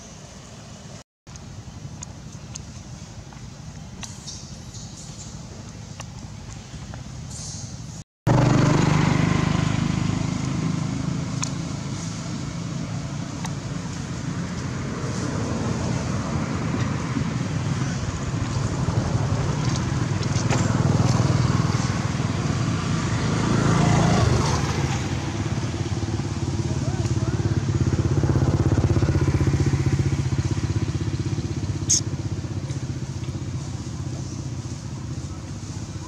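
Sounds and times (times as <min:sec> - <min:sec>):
road noise: 0:00.0 - 0:36.0
vehicle engine hum: 0:00.0 - 0:36.0.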